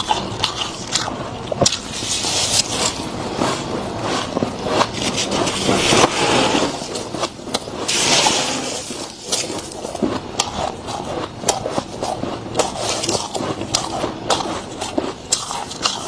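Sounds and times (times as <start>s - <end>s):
freezer frost crunching: 0.0s - 16.0s.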